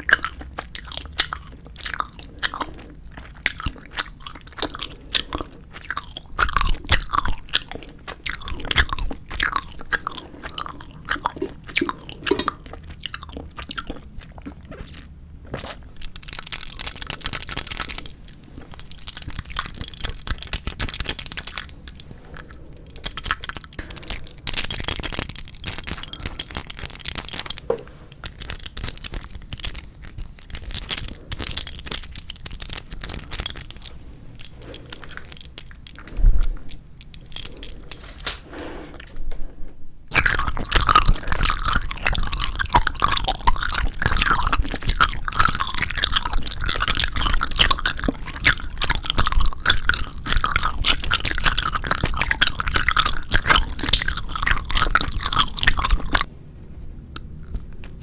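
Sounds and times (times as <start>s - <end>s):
chewing gummy candies: 0.0s - 38.4s, 40.1s - 56.3s, 57.1s - 58.0s
wet crunching and chewing: 0.0s - 39.2s, 40.1s - 56.3s, 57.2s - 58.0s.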